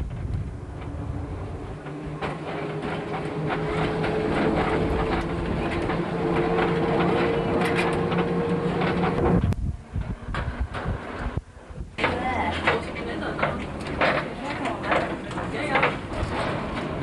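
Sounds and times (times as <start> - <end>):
rail clicks: 0.0 - 11.4, 12.0 - 17.0
tram motor hum: 0.0 - 17.0
wheels rumbling on track: 0.0 - 17.0.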